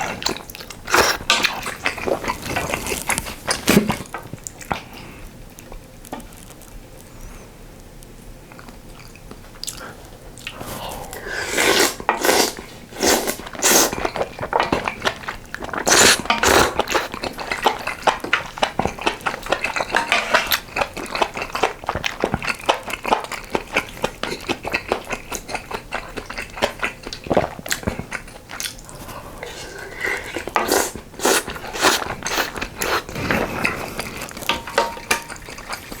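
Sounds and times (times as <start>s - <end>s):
person chewing and smacking: 0.0s - 6.8s, 8.5s - 36.0s.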